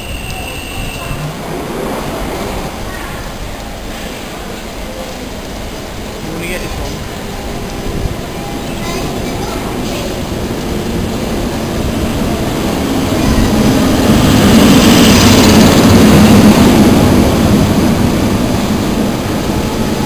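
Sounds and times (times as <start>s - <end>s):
passenger train passing at speed: 0.0s - 20.0s.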